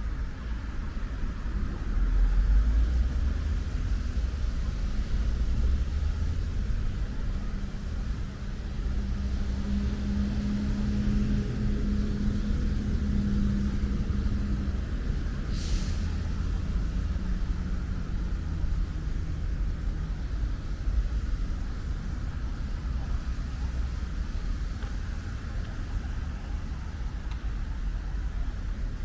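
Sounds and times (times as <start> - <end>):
light hiss of rain: 0.0 - 29.0
low rumble of road traffic: 0.0 - 29.0
vehicle engine hum: 0.0 - 29.0.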